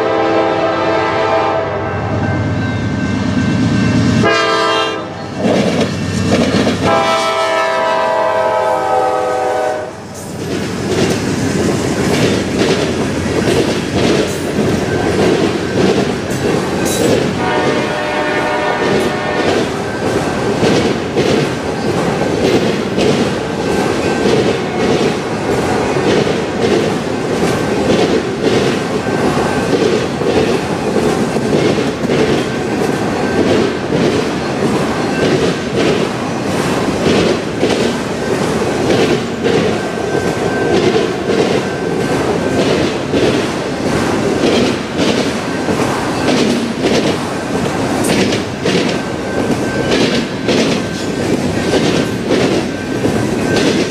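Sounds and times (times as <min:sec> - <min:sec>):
clickety-clack over rail joints: 0:05.3 - 0:53.9.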